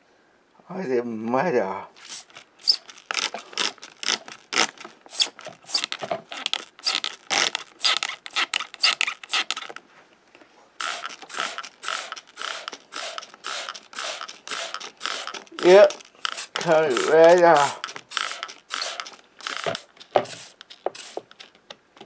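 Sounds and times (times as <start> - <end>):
water sprayer squirts: 2.0 - 9.8, 10.8 - 21.5.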